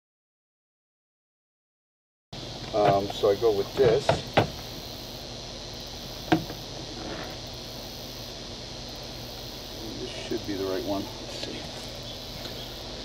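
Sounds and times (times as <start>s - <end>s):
insects buzzing: 2.4s - 13.0s.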